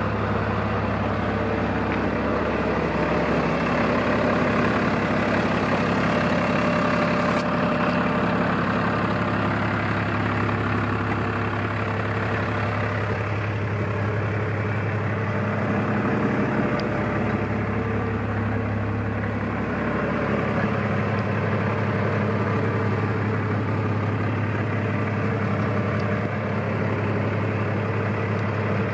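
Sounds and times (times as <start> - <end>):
tractor diesel engine idling: 0.0 - 28.9.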